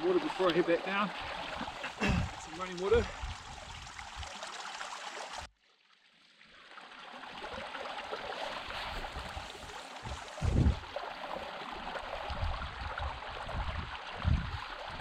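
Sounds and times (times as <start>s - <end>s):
stream water trickling: 0.0s - 15.0s.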